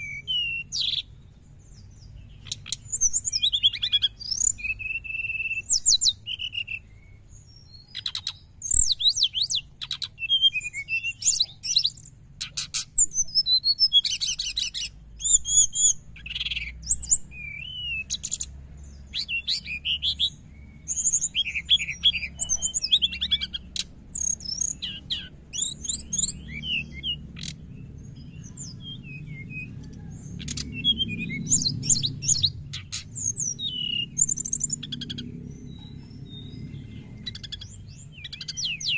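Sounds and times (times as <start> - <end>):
bird chattering twitter: 0.0 - 38.9.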